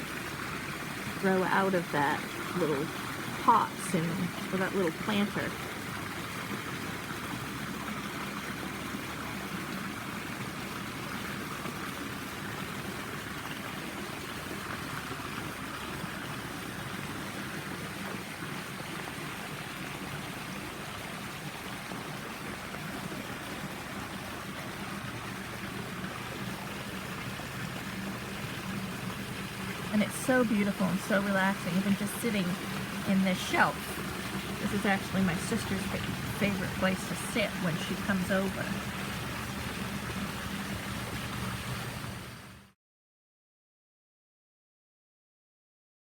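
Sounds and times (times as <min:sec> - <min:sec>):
running water: 0:00.0 - 0:42.8.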